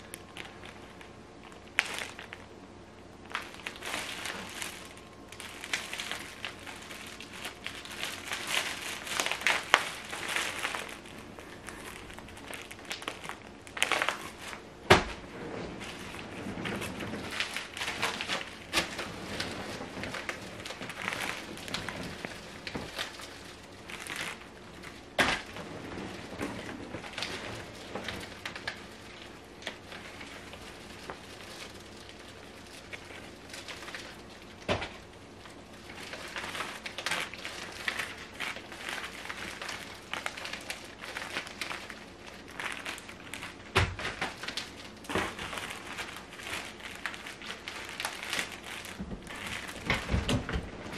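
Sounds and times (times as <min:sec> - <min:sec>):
plastic bags crinkling: 0:00.0 - 0:50.9.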